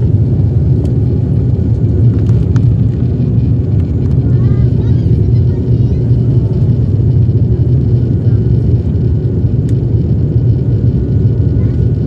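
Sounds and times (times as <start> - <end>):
propeller airliner engines droning: 0.0 - 12.0.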